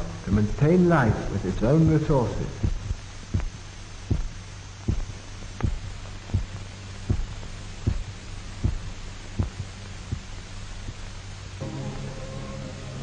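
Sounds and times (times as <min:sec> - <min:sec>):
heartbeat thumps: 0:00.0 - 0:11.4
steady low hum: 0:00.0 - 0:13.0.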